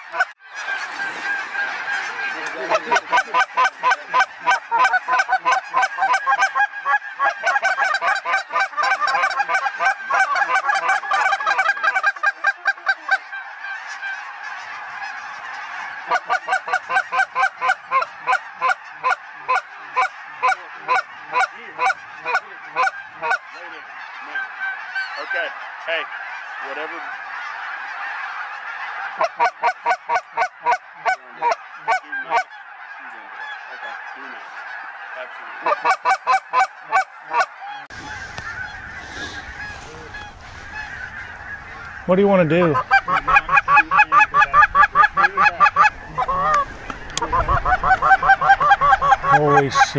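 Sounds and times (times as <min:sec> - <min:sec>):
geese honking in flight: 0:00.0 - 0:49.9.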